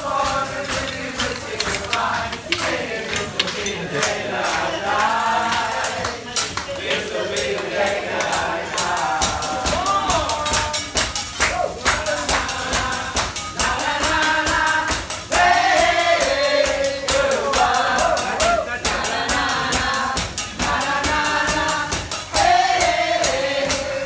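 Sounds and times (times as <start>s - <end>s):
percussive beat: 0.0s - 24.0s
upbeat song with singing: 0.0s - 24.0s.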